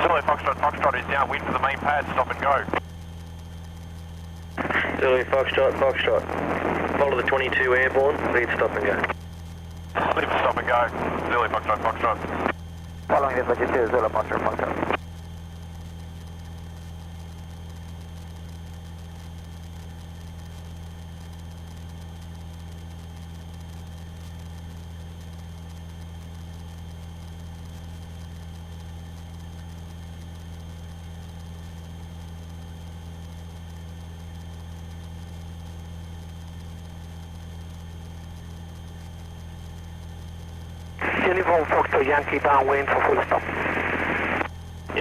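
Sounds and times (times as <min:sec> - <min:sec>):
propeller aircraft engine drone: 0:00.0 - 0:45.0.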